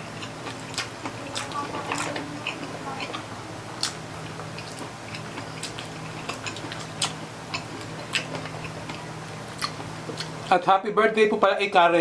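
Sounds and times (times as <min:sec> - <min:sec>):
person chewing with wet smacks: 0:00.0 - 0:10.5.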